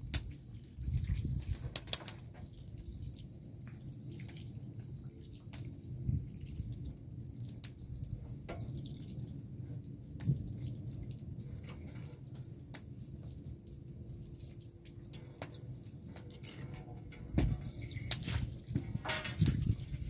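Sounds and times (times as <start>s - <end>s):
water drips: 0.0s - 20.0s.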